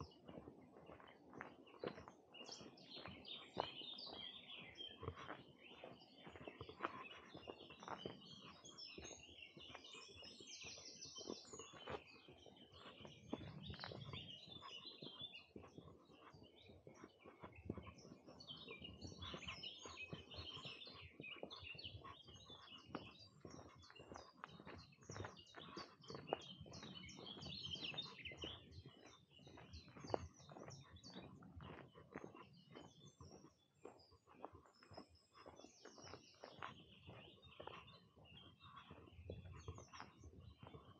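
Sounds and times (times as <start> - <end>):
birds chirping and singing: 0.0 - 40.9
footsteps on a path: 0.0 - 40.9.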